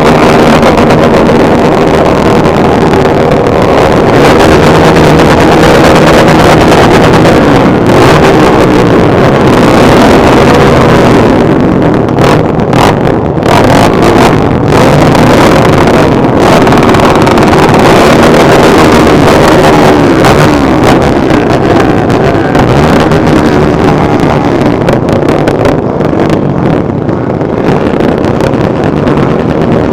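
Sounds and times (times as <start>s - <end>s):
motorcycle engines revving: 0.0s - 29.9s
wind noise on microphone: 0.0s - 29.9s.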